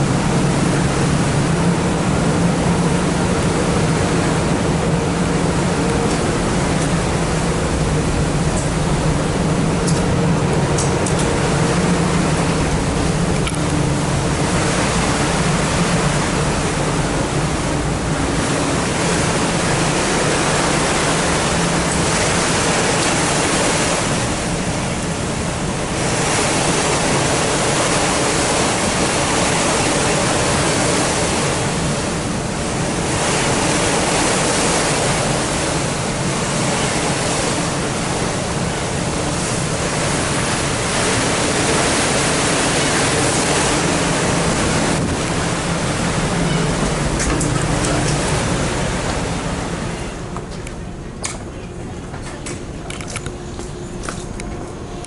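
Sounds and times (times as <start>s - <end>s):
low engine hum: 0.0s - 55.0s
water rushing: 0.0s - 55.0s.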